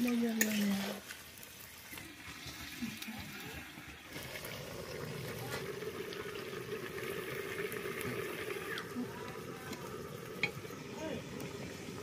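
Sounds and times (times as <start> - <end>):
curry sizzling in covered pan: 0.0 - 12.0.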